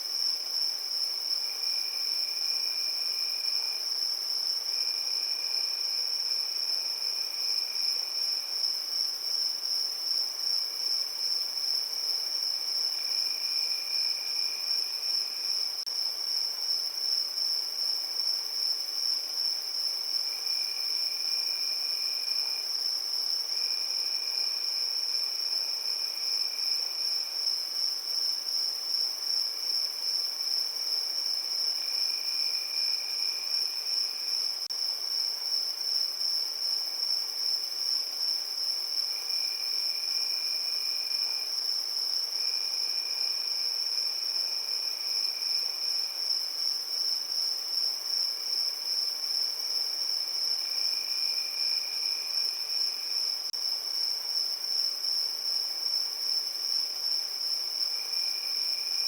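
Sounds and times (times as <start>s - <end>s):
crickets chirring: 0.0s - 59.0s
lower-pitched insect trill: 0.0s - 59.0s.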